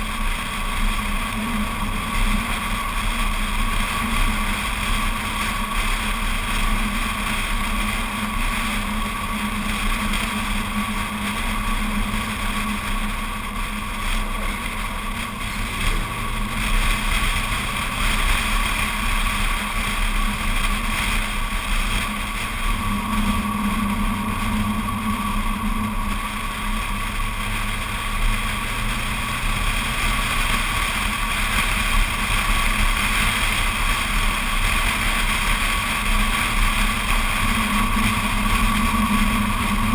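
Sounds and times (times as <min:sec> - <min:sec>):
car engine cruising: 0:00.0 - 0:39.9
wind rushing over microphone: 0:00.0 - 0:39.9.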